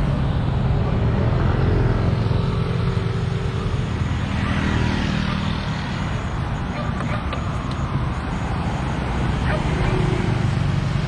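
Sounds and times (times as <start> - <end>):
cars and motorbikes driving past: 0.0 - 11.0.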